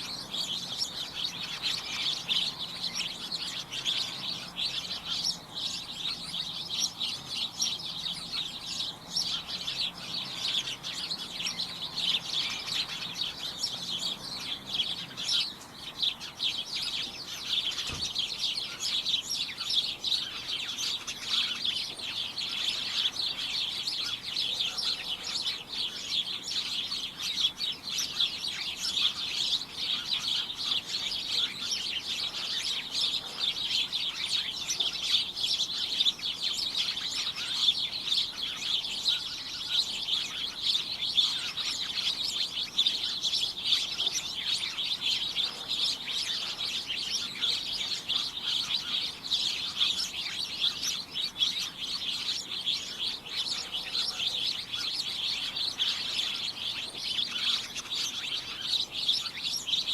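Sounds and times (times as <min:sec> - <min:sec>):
flock of small birds chirping: 0:00.0 - 0:59.9.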